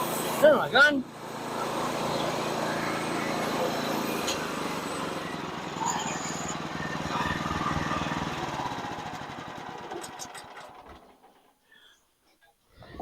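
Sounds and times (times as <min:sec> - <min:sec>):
sawmill engine running: 0:00.0 - 0:11.5.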